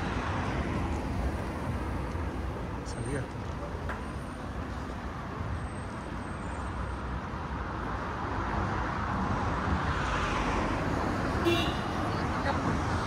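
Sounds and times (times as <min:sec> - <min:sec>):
road traffic rush: 0:00.0 - 0:13.0.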